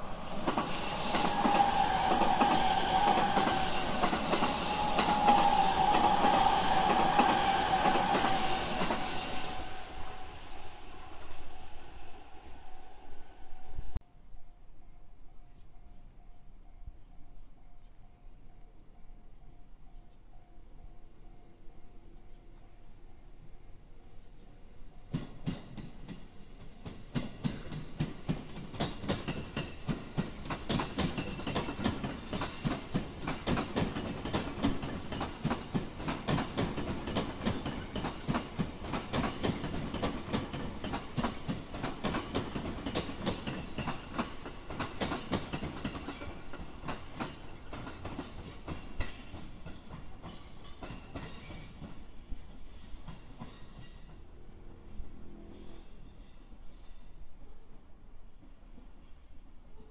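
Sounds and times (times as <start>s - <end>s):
electric train running past: 0.0s - 14.0s, 24.6s - 59.9s.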